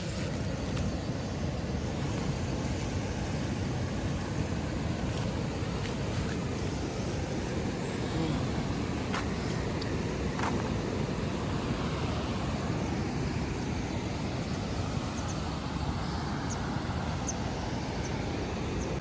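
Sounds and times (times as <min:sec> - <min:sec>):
river flowing: 0:00.0 - 0:17.8.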